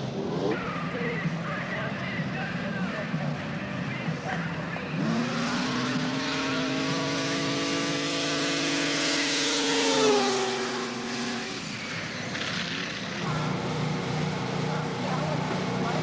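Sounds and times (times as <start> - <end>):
snowmobile engine at full throttle: 0.0 - 16.0.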